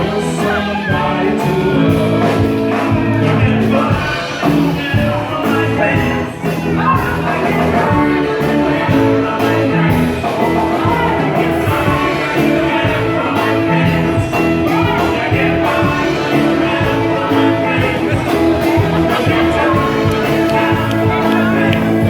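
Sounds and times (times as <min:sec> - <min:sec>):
drums: 0:00.0 - 0:22.0
electric guitar: 0:00.0 - 0:22.0
person singing: 0:00.0 - 0:22.0.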